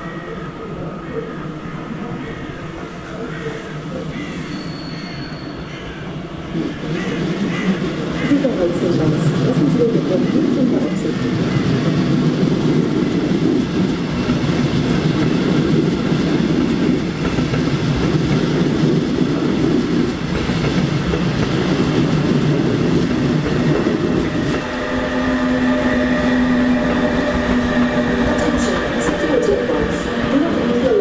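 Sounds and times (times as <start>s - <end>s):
train wheel and rail rumble: 0.0s - 31.0s.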